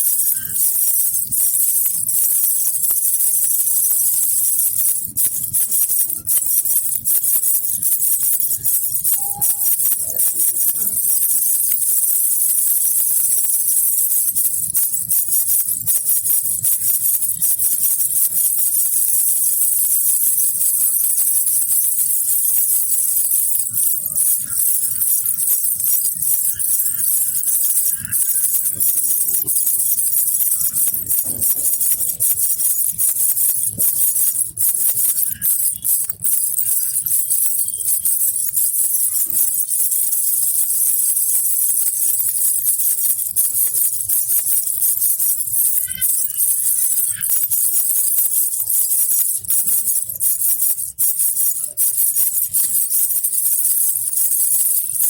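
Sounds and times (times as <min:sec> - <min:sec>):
baby rattle jingling: 0:00.0 - 0:55.0.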